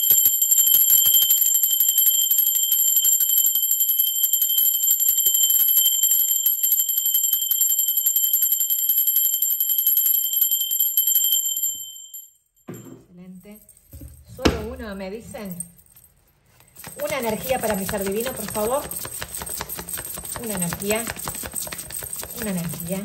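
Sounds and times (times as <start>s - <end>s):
small bell ringing rapidly: 0.0s - 12.4s, 16.6s - 23.0s.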